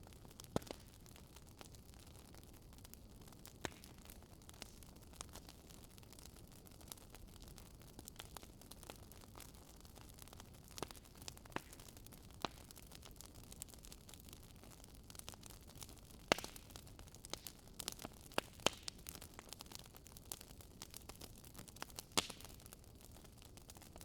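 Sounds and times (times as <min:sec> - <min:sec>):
burning wood crackling and popping: 0:00.0 - 0:24.0.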